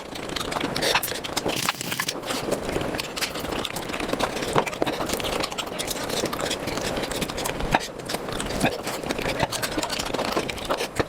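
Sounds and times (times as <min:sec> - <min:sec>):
chewing and smacking: 0:00.0 - 0:11.0.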